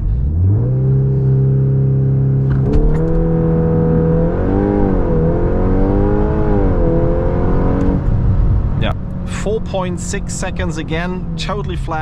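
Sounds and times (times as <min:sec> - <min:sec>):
car engine droning under load: 0:00.0 - 0:12.0.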